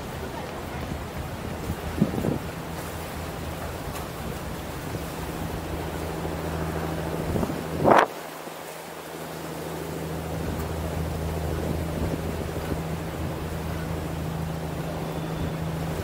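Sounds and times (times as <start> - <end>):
wind buffeting microphone: 0.0 - 8.3, 9.4 - 16.0
low engine hum: 0.0 - 16.0.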